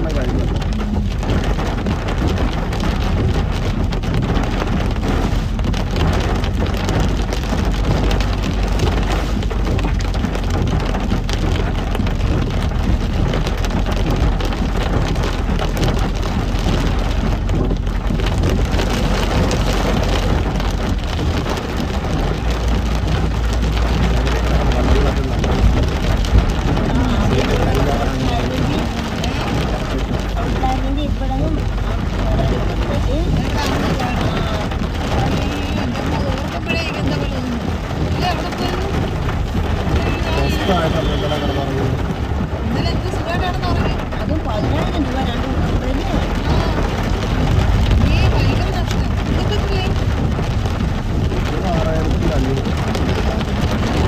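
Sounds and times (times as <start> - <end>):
car engine rumble: 0.0 - 54.0
heavy rain on a car: 0.0 - 54.0
tyres on a wet road: 0.0 - 54.0.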